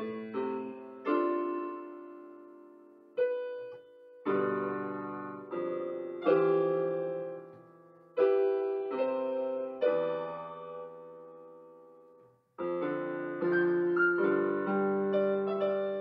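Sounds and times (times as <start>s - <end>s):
keyboard playing piano chords: 0.0s - 16.0s.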